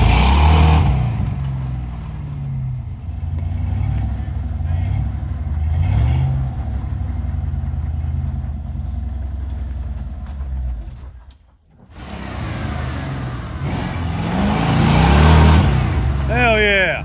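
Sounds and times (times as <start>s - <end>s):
off-road vehicle engine revving: 0.0s - 10.2s, 12.0s - 17.0s.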